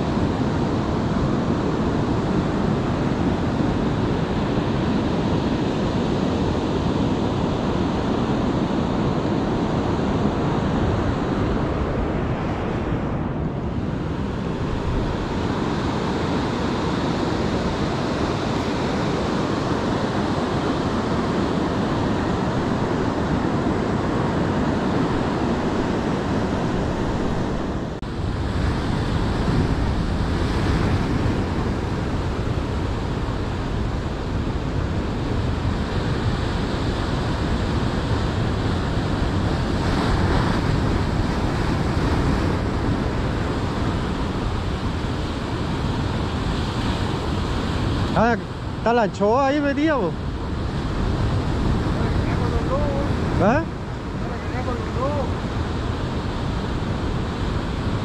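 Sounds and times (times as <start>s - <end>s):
ocean surf washing onto beach: 0.0s - 58.0s
wind buffeting microphone: 0.0s - 58.0s.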